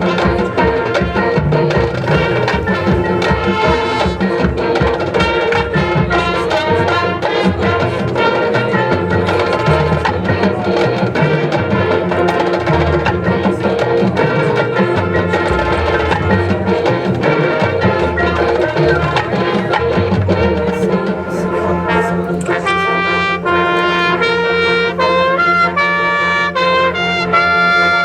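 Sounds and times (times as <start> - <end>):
marching band playing: 0.0 - 28.0
percussion strikes: 0.0 - 28.0.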